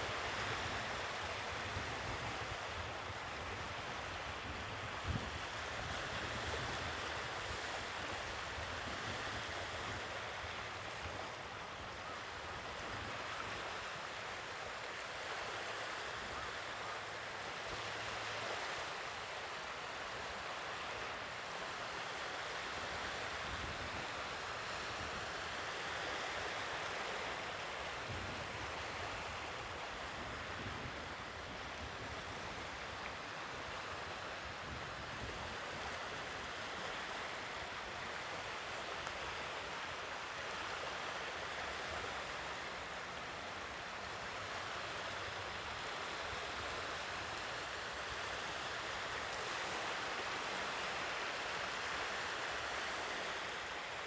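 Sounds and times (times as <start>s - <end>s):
sea waves washing on shore: 0.0s - 54.0s.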